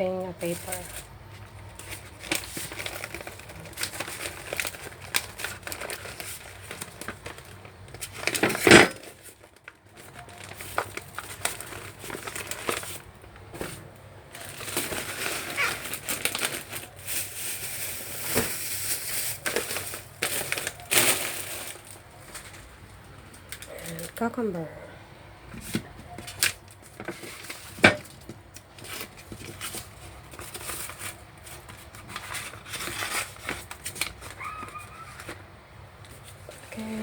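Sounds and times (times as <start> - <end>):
paper crinkling and rustling: 0.4 - 24.3, 25.6 - 37.0.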